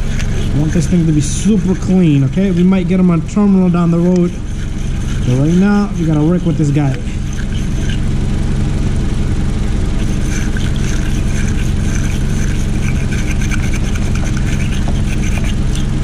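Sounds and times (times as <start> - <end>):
wire brush scratching: 0.0 - 8.1, 10.0 - 16.0.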